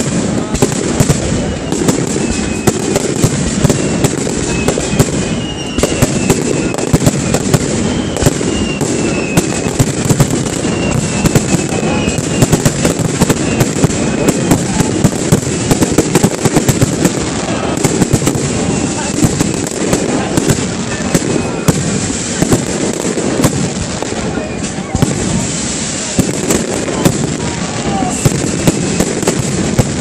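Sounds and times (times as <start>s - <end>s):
firework bangs and crackles: 0.0s - 30.0s.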